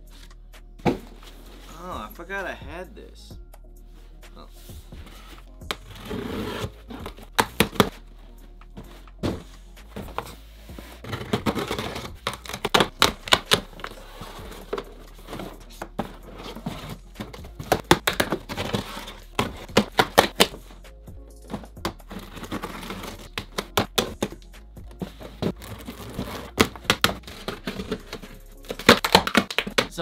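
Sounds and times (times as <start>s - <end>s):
background music: 0.0s - 30.0s
cardboard boxes being handled: 5.0s - 20.6s, 21.4s - 30.0s.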